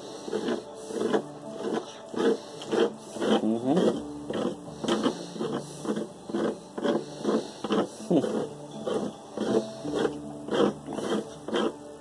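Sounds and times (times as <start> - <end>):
edge scraping plastic sheet: 0.3 - 11.8.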